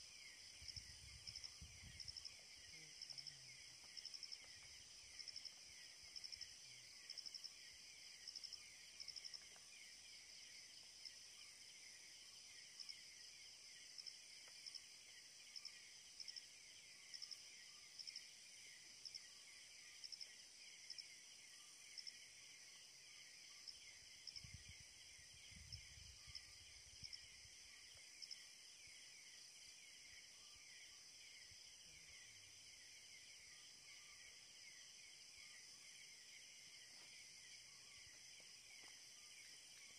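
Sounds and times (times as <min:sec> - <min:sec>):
insect chirp: 0:00.0 - 0:39.9
insects trilling: 0:00.0 - 0:39.9.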